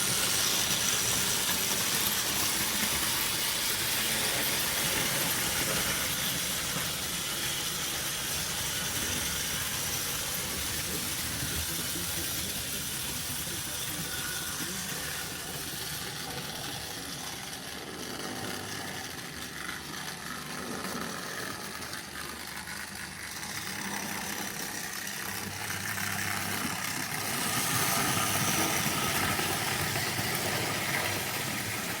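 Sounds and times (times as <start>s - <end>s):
wheels rattling on metal track: 0.0s - 32.0s.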